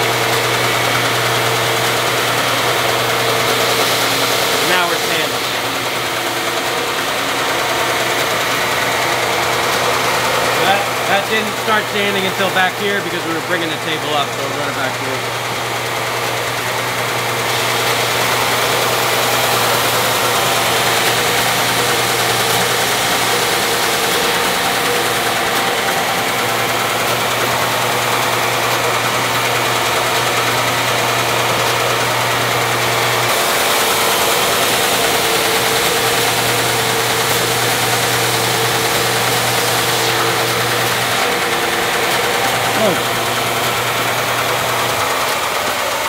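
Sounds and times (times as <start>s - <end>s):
machine hum: 0.0s - 46.0s.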